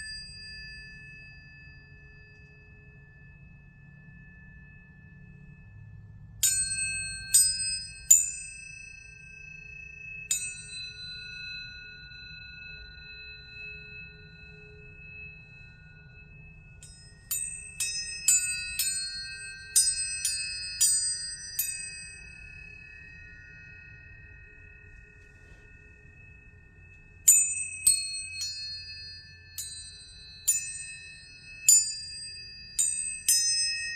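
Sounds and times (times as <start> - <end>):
tuning forks struck and ringing: 0.0 - 33.9.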